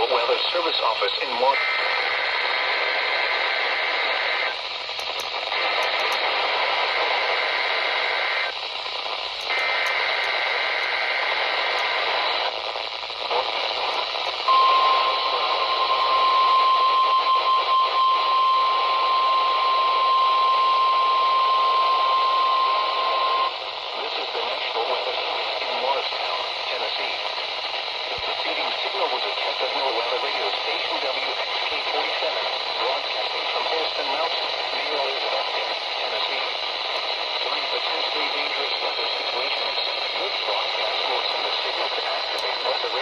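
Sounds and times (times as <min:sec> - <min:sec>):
radio static: 0:00.0 - 0:43.0.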